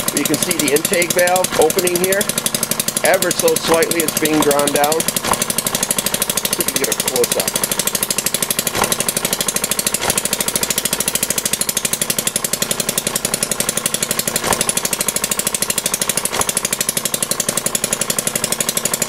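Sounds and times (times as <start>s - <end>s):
model engine running: 0.0s - 19.0s.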